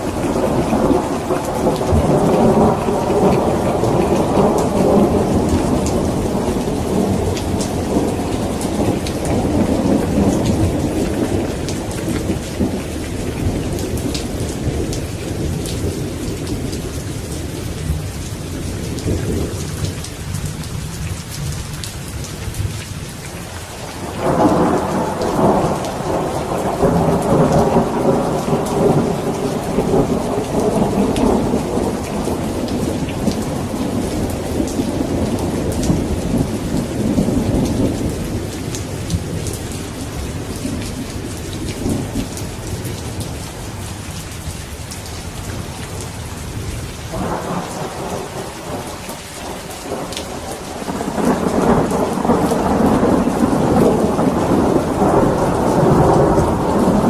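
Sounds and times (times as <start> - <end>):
rolling thunder: 0.0 - 20.5, 23.9 - 43.4, 45.5 - 57.0
steady rain: 0.0 - 57.0.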